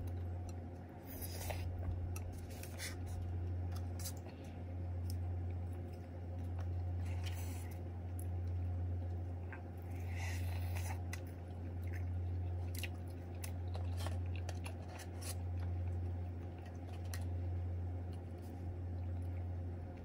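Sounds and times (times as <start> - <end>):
chewing crunches and clicks: 0.0 - 20.0
low pulsing hum: 0.0 - 20.0.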